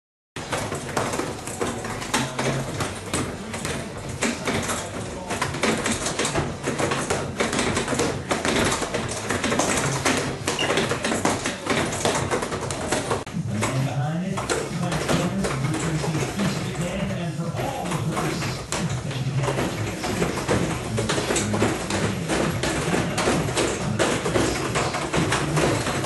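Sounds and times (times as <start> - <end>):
fists striking padded arms: 0.4 - 13.3, 17.6 - 26.0.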